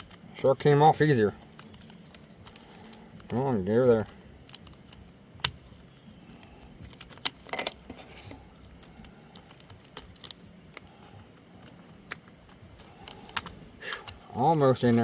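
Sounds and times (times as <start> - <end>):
plastic clicks and rattles: 0.0 - 15.0.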